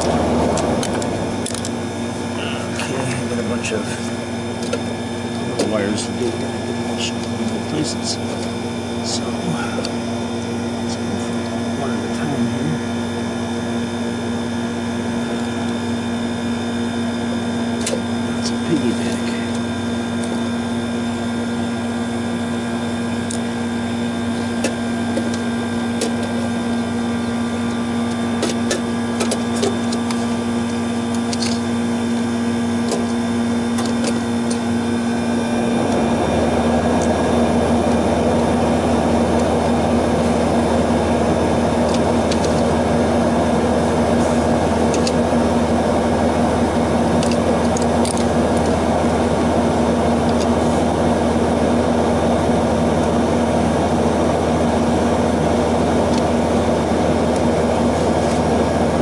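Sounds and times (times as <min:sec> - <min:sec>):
machine rush with low hum: 0:00.0 - 0:59.0
steady machine hum: 0:00.0 - 0:59.0.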